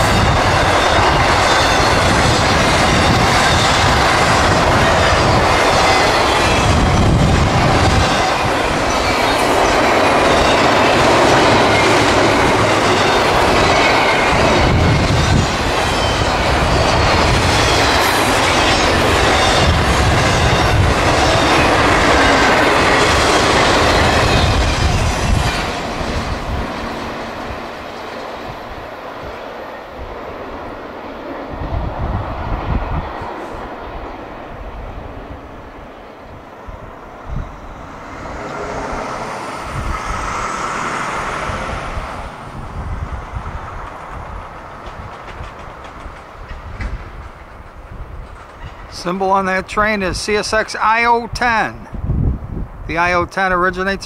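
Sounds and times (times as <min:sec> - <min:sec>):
train wheels rolling on rails: 0:00.0 - 0:50.6.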